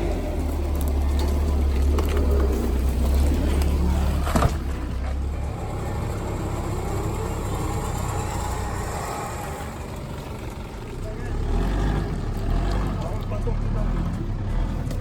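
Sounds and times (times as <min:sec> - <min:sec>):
road noise: 0:00.0 - 0:15.0
vehicle engine running: 0:00.0 - 0:15.0.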